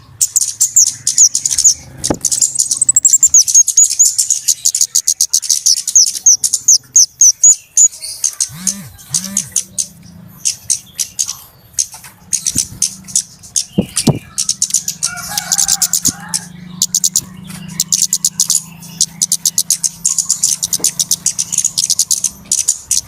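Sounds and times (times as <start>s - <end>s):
bird high thin chirps: 0.0s - 23.0s.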